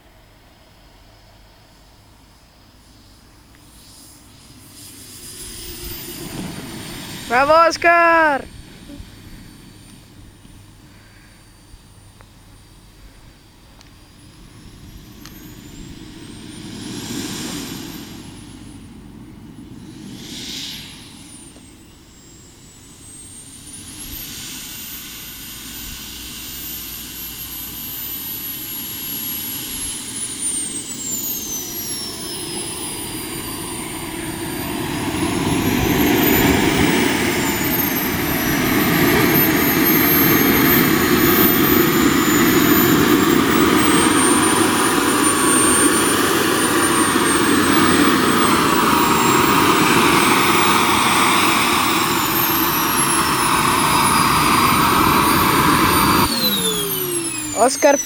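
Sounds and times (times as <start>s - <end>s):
model jet turbine whine: 0.0s - 58.0s.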